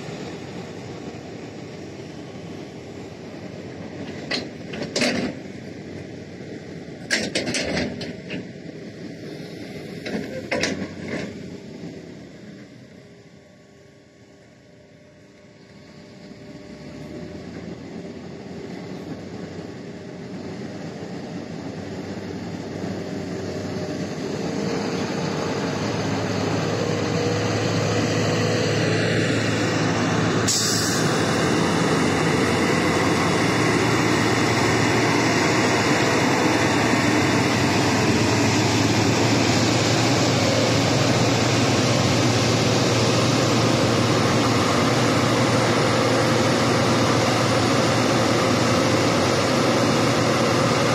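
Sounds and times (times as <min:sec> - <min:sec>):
dump truck diesel engine: 0:00.0 - 0:50.9.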